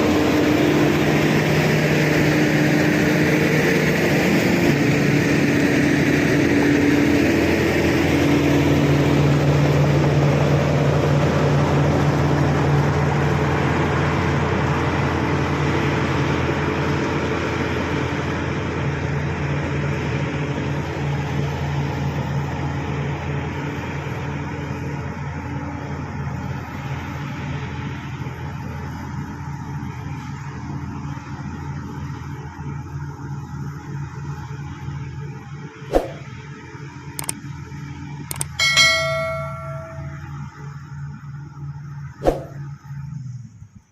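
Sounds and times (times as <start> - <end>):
bulldozer diesel engine running: 0.0 - 43.5.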